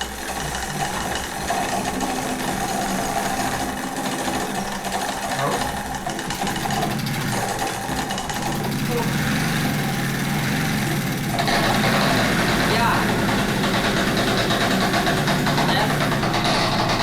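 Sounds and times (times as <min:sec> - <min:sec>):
moped engine running: 0:00.0 - 0:17.0.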